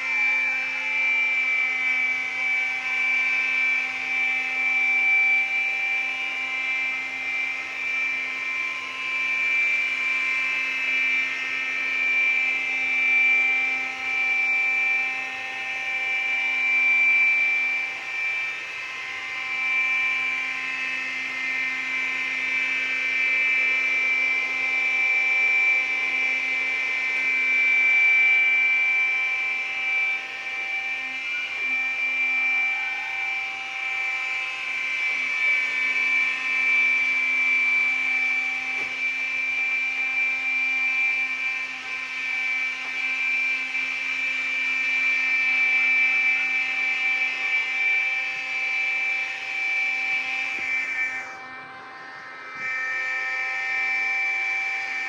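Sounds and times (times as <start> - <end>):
robot motor whine and hum: 0.0 - 55.0.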